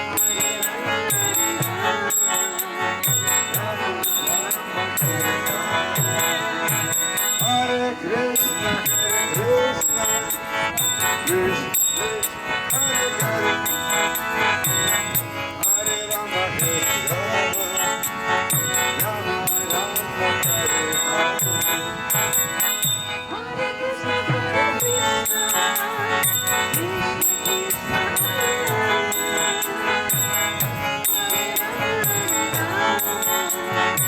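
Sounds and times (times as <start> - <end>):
chanting voices: 0.0 - 34.0.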